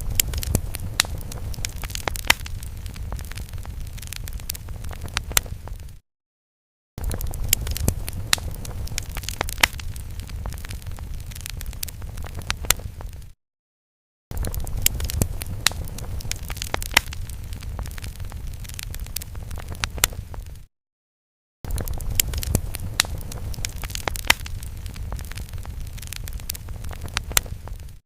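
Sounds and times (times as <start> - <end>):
fire crackling: 0.0 - 6.0, 7.0 - 13.4, 14.3 - 20.7, 21.7 - 28.0.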